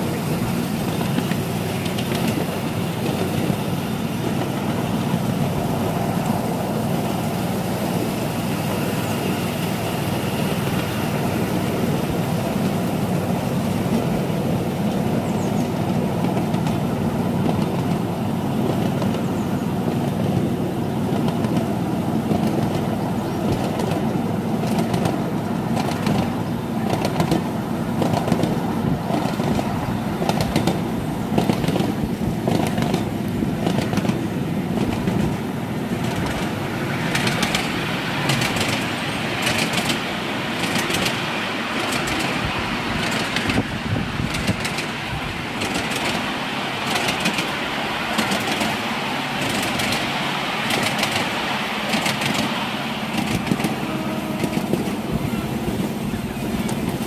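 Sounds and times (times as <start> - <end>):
miniature train wheels rumbling: 0.0 - 57.0
wheels clicking over track: 0.0 - 57.0.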